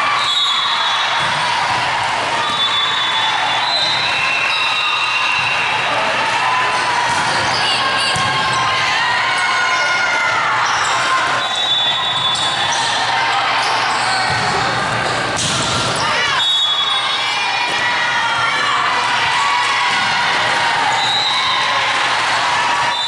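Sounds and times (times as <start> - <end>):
crowd and player voices: 0.0 - 23.0.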